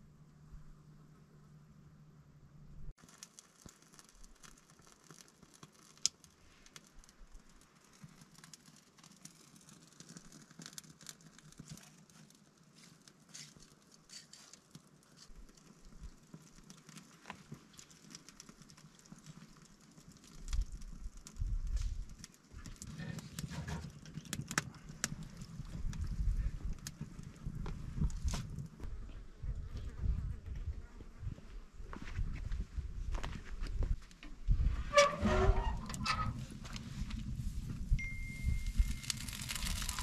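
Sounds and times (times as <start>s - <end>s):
wood fire crackling: 2.9s - 29.8s, 31.9s - 40.0s.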